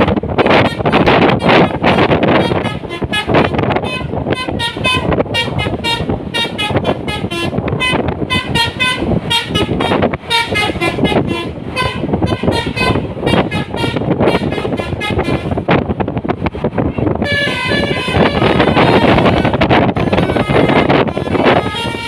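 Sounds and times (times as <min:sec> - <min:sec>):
bus horn playing melody: 0:00.0 - 0:15.8, 0:17.2 - 0:22.0
road traffic rumble: 0:00.0 - 0:22.0.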